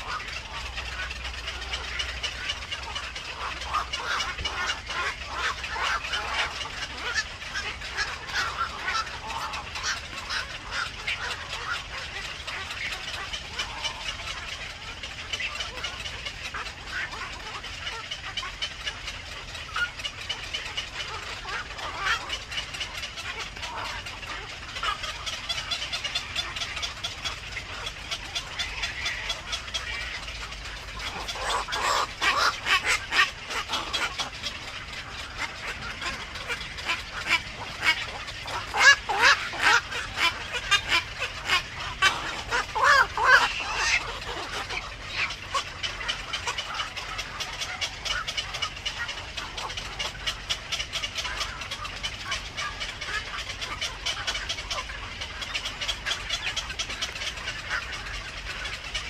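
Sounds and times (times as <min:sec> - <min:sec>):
herons calling: 0:00.0 - 0:59.0
herons clicking chatter: 0:00.0 - 0:59.0.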